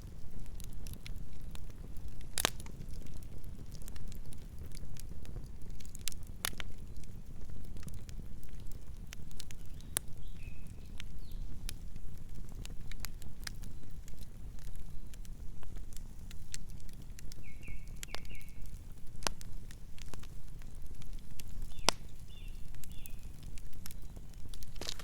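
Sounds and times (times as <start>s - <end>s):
campfire crackling and popping: 0.0s - 25.0s
low rumble of flames: 0.0s - 25.0s.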